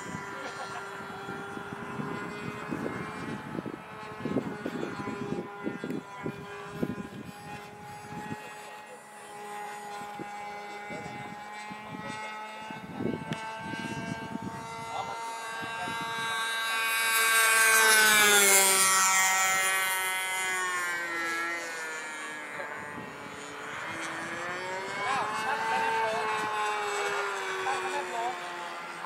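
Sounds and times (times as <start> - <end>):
model airplane motor and propeller: 0.0 - 29.0.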